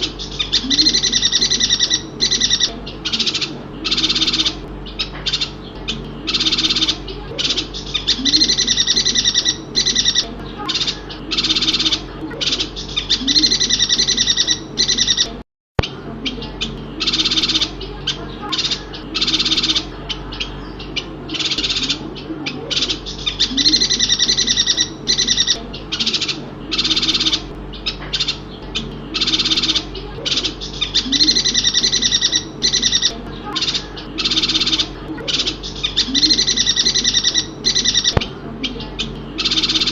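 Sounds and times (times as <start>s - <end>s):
birds twittering chatter: 0.0s - 39.9s
soft low bird calls: 0.0s - 39.9s.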